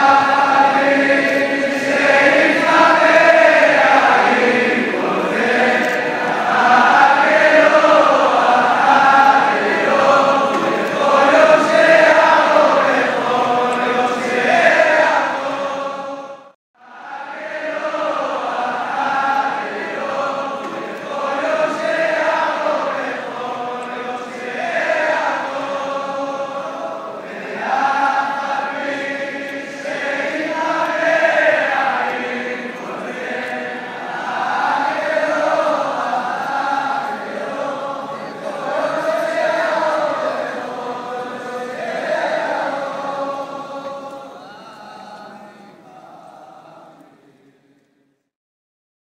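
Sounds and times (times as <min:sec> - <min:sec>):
choral chanting: 0:00.0 - 0:48.2.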